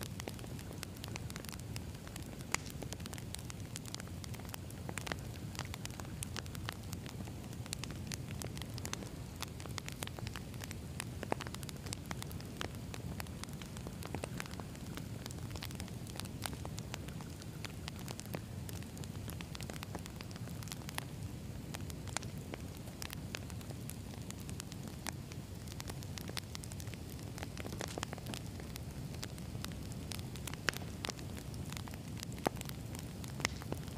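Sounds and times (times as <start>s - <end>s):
campfire flames rumbling: 0.0s - 33.9s.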